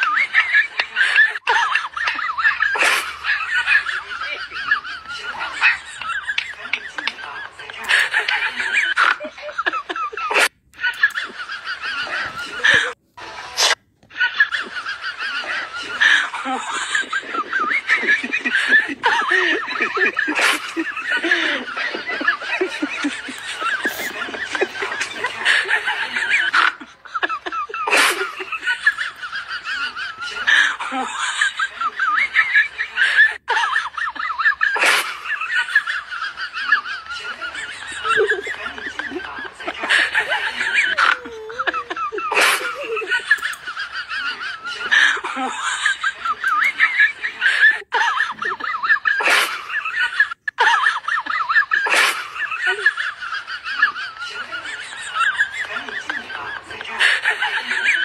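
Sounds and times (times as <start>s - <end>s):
people laughing: 0.0s - 58.0s.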